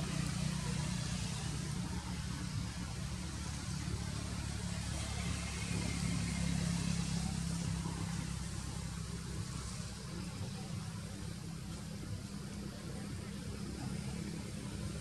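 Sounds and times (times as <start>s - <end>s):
continuous high hiss: 0.0s - 15.0s
engine humming: 0.0s - 15.0s.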